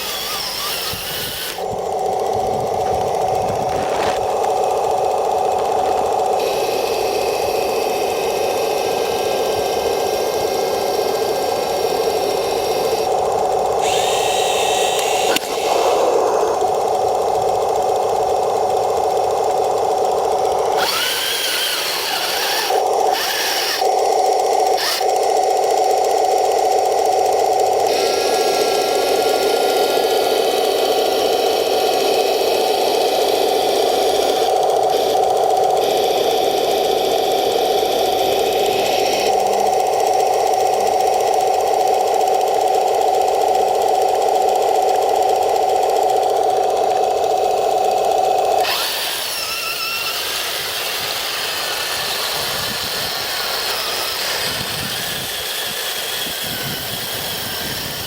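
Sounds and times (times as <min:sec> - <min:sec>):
toy tank motors whining: 0:00.0 - 0:58.0.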